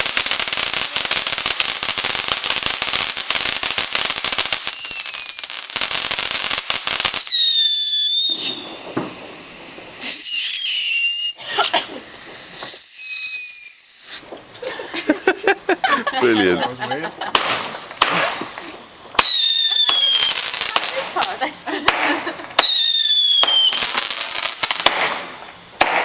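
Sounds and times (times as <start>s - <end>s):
whistling fireworks shrieking: 0.0s - 14.6s, 17.2s - 26.0s
fireworks crackling: 0.0s - 26.0s.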